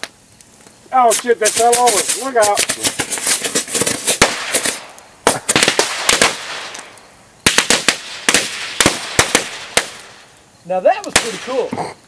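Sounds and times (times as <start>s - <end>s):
bottle rockets popping and hissing: 0.0s - 12.0s.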